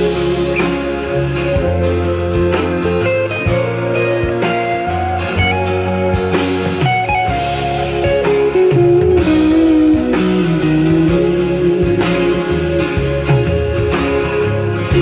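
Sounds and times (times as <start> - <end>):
guitar music with bass line: 0.0 - 15.0.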